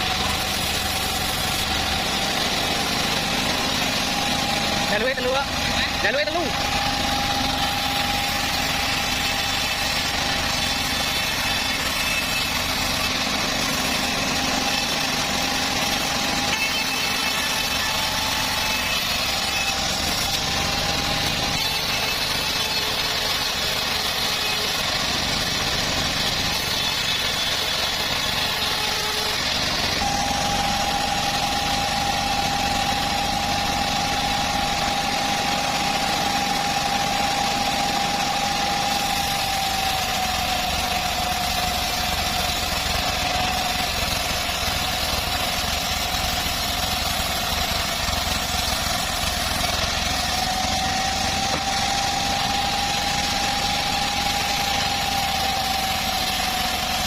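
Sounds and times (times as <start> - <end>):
bandsaw sawmill running: 0.0 - 57.0.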